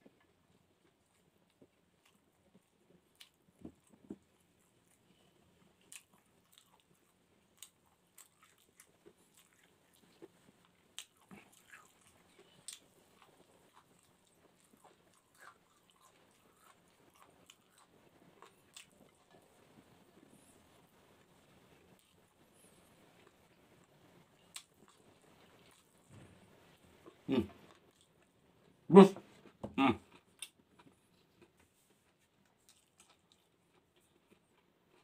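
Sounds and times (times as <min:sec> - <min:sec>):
close-up chewing: 0:00.0 - 0:28.8, 0:29.4 - 0:35.0.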